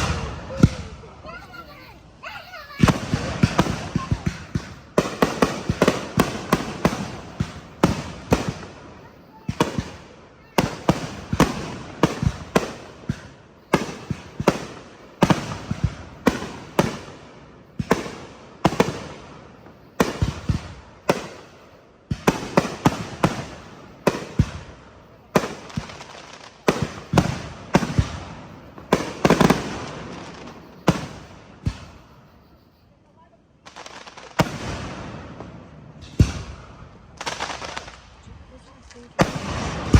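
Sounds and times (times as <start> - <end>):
fireworks bangs echoing: 0.0 - 32.6, 33.6 - 39.9.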